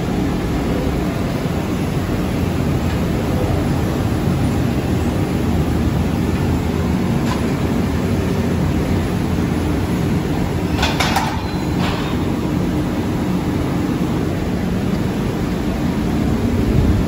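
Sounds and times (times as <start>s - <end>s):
factory machinery drone: 0.0s - 17.0s.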